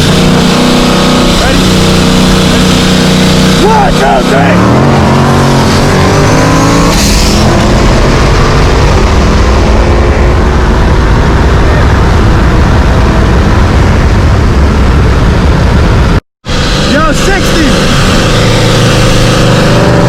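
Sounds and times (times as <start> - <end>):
car engine running hard: 0.0 - 20.0
road and wind noise: 0.0 - 20.0.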